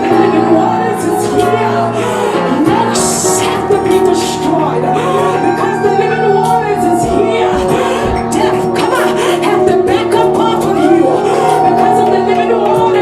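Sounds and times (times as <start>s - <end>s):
people singing: 0.0s - 13.0s.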